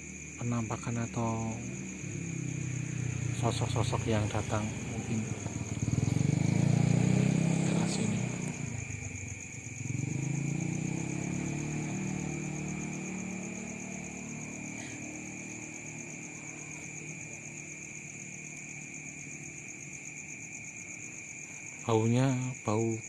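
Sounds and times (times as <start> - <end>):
crickets chirping: 0.0 - 23.0
vehicle engine passing by: 0.2 - 21.8.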